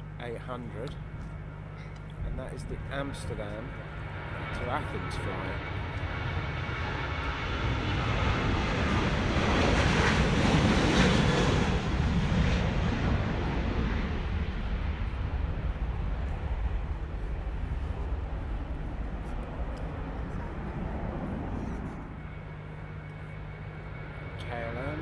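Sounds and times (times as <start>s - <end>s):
jet engines rushing and rumbling: 0.0s - 25.0s.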